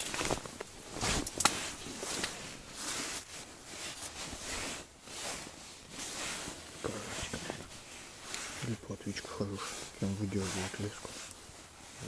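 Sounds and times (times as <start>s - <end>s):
fishing line handling rustle: 0.0s - 12.0s.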